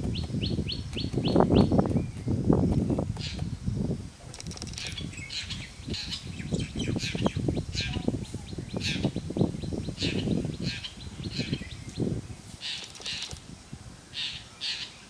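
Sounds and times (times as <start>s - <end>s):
birds chirping: 0.0s - 3.6s, 4.4s - 15.0s.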